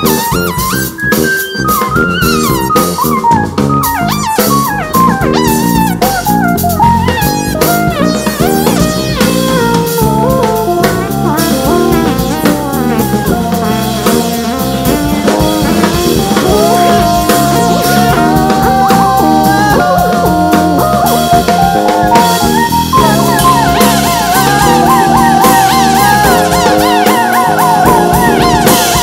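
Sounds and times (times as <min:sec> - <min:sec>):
drum kit with cymbals: 0:00.0 - 0:29.0
electric bass: 0:00.0 - 0:29.0
keyboard: 0:00.0 - 0:29.0
saxophone: 0:00.0 - 0:29.0.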